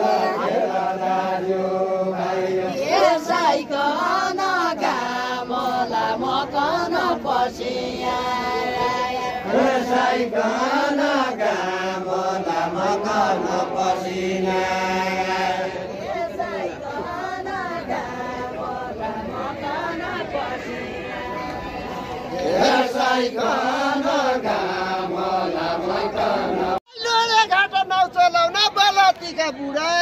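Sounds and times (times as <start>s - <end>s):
voices singing a folk song: 0.0s - 27.4s.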